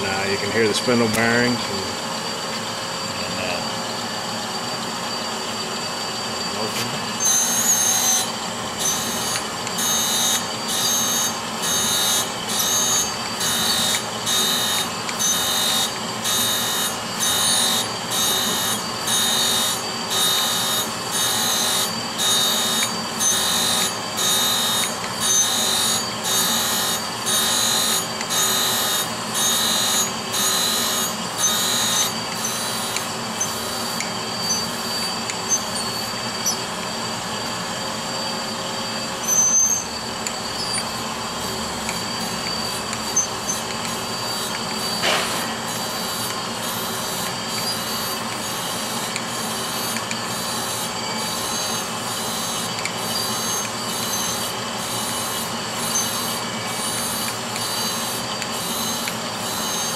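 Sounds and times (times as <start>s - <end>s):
grinder spindle running: 0.0s - 59.9s.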